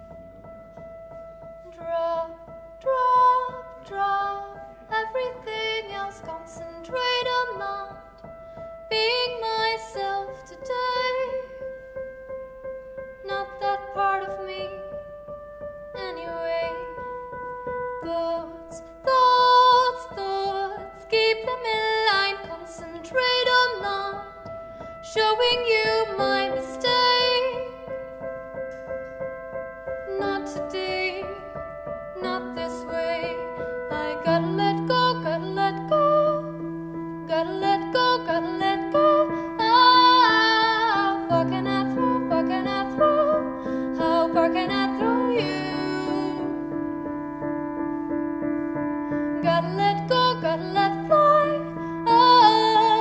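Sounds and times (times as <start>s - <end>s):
piano chords: 0.0s - 53.0s
woman singing: 1.6s - 8.3s, 8.9s - 11.8s, 13.2s - 15.0s, 15.9s - 28.0s, 30.0s - 47.2s, 49.2s - 53.0s.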